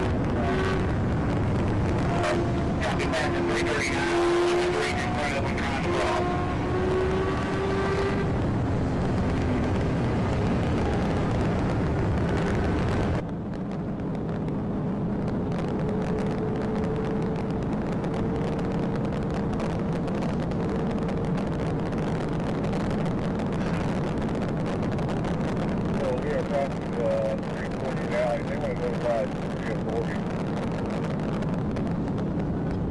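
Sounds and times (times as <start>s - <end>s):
car engine at high speed: 0.0s - 32.9s
rising whine: 0.0s - 32.9s.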